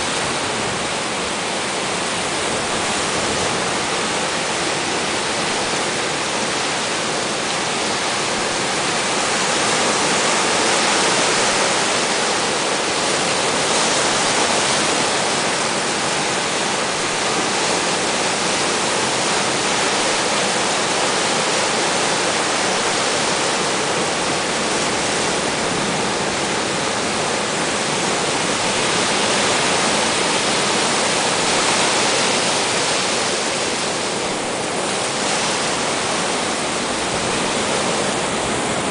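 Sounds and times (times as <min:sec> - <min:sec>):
heavy surf breaking: 0:00.0 - 0:38.9.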